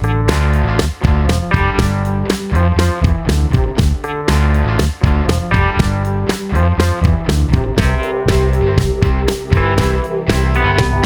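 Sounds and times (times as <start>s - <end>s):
guitar-led rock music: 0.0s - 11.0s.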